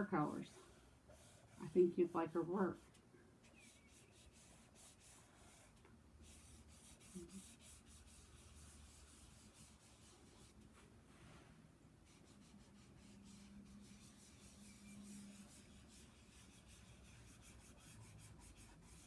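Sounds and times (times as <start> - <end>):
fingers rubbing pastel on paper: 0.0 - 10.7, 12.0 - 19.0.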